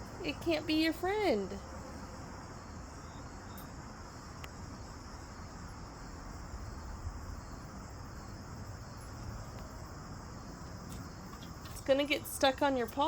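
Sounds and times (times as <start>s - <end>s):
high-pitched insect chorus: 2.0s - 13.0s.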